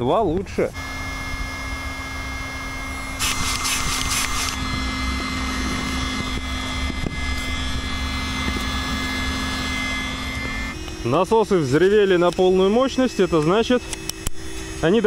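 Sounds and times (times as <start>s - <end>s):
electric air pumps whining: 0.0s - 15.0s.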